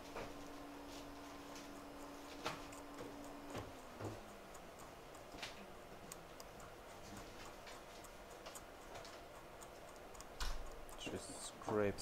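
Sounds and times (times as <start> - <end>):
light clicks and ticks: 1.0 - 12.0.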